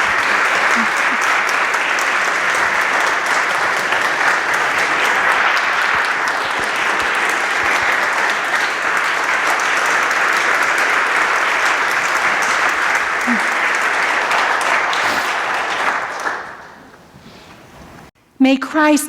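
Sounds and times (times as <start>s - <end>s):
congregation applauding: 0.0s - 18.1s.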